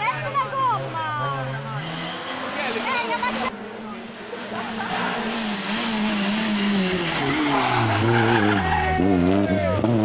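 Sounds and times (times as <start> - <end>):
rally car engine: 0.0 - 10.0.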